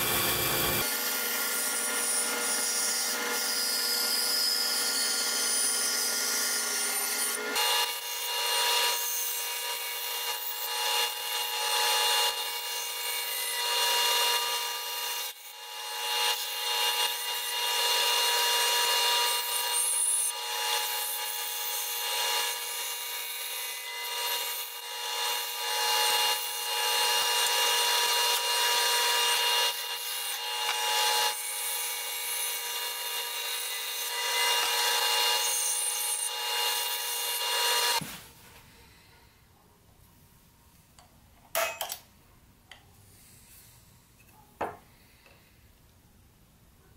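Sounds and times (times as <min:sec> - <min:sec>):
band saw cutting wood: 0:00.0 - 0:38.0.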